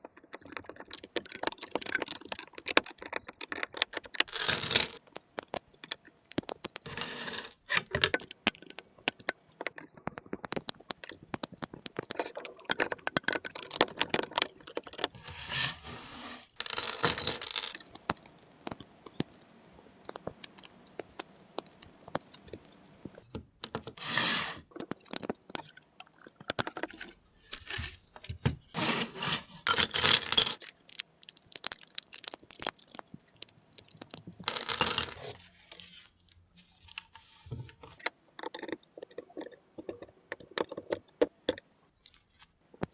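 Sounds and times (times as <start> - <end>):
plastic bricks clicking together: 0.0 - 15.2, 16.6 - 24.0, 24.7 - 27.2, 29.7 - 35.3, 38.0 - 41.8
loose plastic pieces rustling: 0.0 - 16.0, 16.6 - 38.7.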